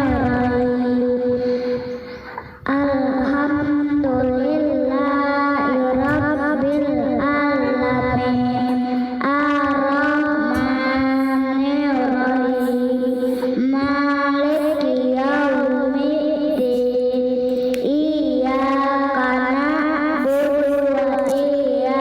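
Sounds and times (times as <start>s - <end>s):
child singing: 0.0s - 22.0s.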